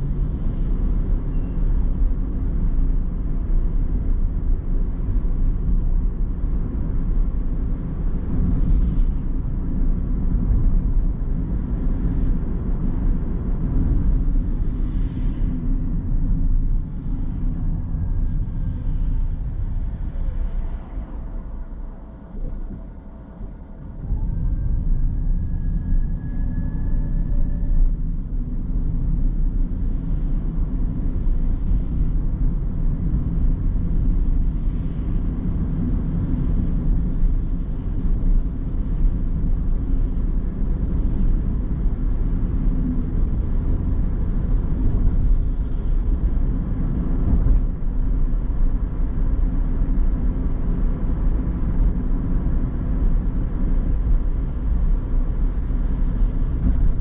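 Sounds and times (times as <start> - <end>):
car driving on road: 0.0 - 57.0
faint whine: 0.0 - 57.0.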